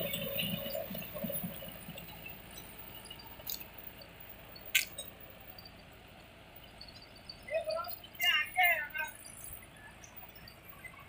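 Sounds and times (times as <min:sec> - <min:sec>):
tractor engine: 0:00.0 - 0:11.0.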